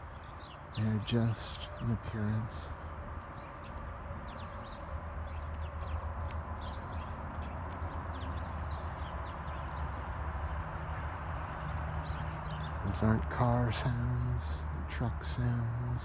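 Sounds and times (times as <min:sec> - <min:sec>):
birds chirping: 0:00.0 - 0:16.0
distant road traffic rumble: 0:00.0 - 0:16.0.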